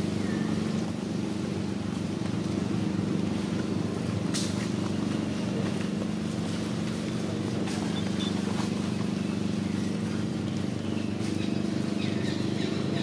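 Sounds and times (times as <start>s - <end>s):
pulsing motor hum: 0.0s - 13.0s.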